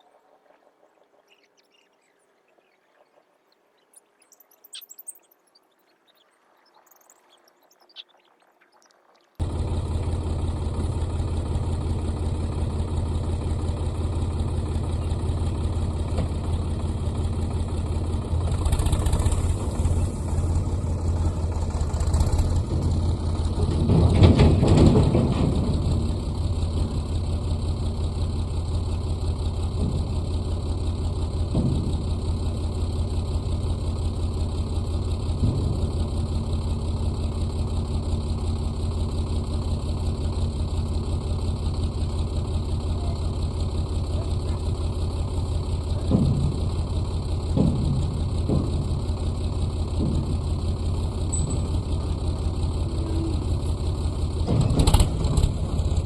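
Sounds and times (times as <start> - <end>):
tractor diesel engine running: 9.4 - 56.0.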